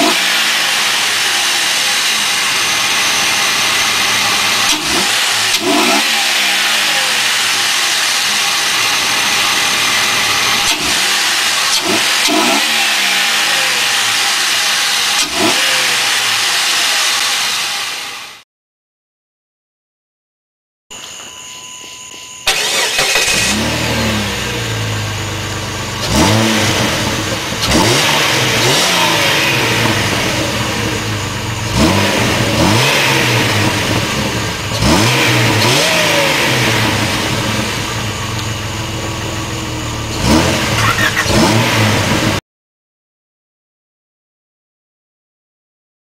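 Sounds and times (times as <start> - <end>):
car engine revving: 0.0 - 18.4, 22.5 - 42.4.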